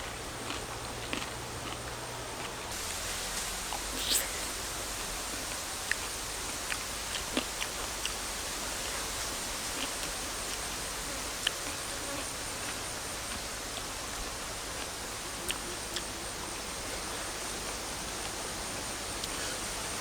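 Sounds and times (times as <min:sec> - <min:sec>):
constant hiss: 0:00.0 - 0:20.0
insects droning: 0:00.0 - 0:20.0.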